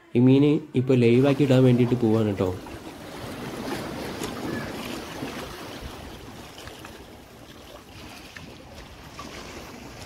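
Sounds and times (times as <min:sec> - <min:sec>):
sea waves washing against rocks: 0:01.1 - 0:10.0.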